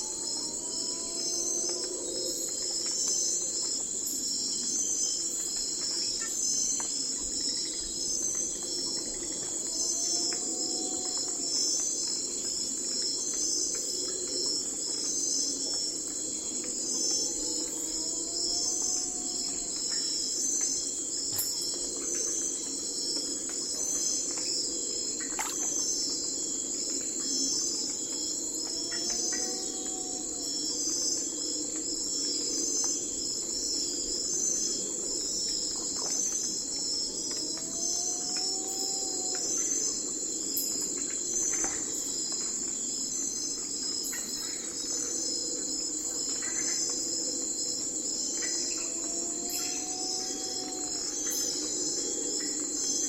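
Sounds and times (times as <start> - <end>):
crickets and insects trilling: 0.0 - 53.0.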